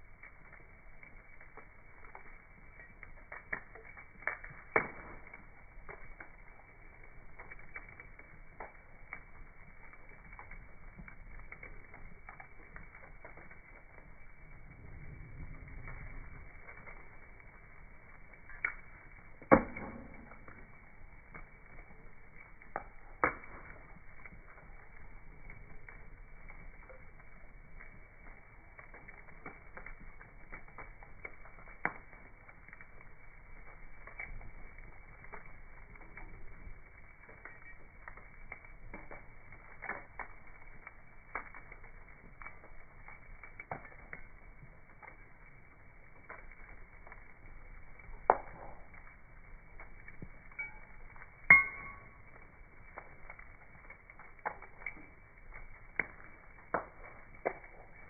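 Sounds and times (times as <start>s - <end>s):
sharp fire pops: 0.0s - 58.0s
slowed bonfire crackling: 0.0s - 58.0s.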